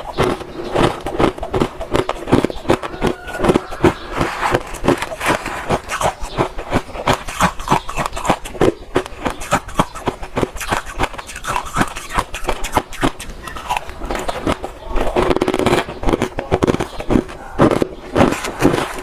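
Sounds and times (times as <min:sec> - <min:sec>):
ice being chewed: 0:00.0 - 0:19.0.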